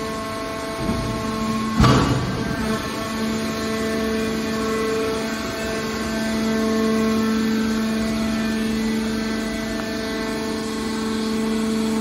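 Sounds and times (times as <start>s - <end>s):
hydraulic pump humming and whining: 0.0s - 12.0s.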